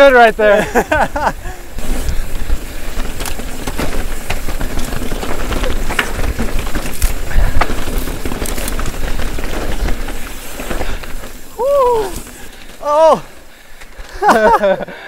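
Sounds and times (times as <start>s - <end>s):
bike rattling over bumps: 0.0s - 15.0s
bike tyres crunching on dirt: 0.0s - 15.0s.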